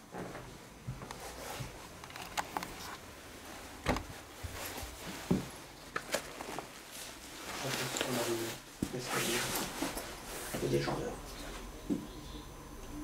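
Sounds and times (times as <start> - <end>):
rustling movement: 0.2 - 11.7.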